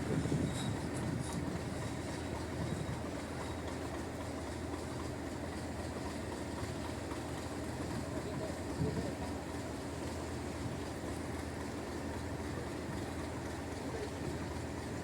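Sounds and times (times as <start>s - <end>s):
diesel train rumbling: 0.0s - 15.0s.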